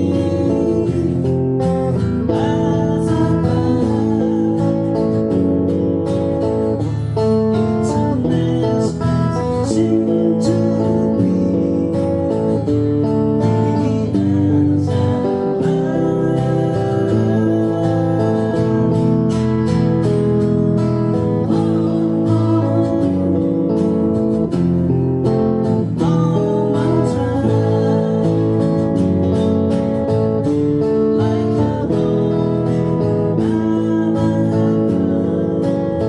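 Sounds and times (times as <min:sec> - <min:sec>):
guitar music: 0:00.0 - 0:36.0.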